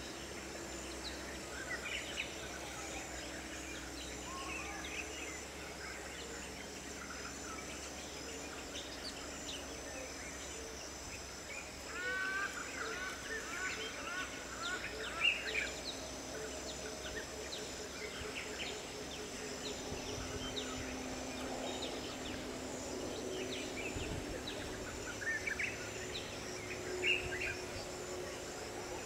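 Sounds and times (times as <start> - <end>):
high-pitched insect drone: 0.0 - 29.0.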